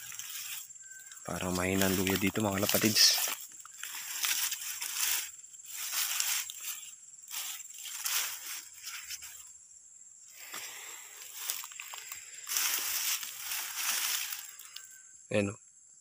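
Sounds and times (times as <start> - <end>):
dry grass rustling and crunching: 0.0 - 9.5, 10.4 - 15.0.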